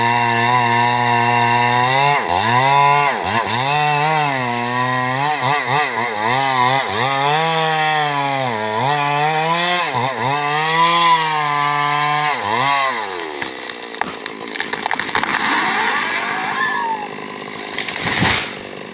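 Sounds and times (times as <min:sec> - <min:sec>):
chainsaw revving: 0:00.0 - 0:18.9.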